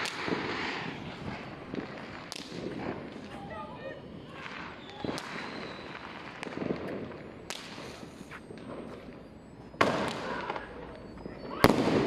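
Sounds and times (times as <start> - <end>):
distant fireworks rumbling: 0.0 - 12.0
firecrackers cracking: 0.0 - 12.0.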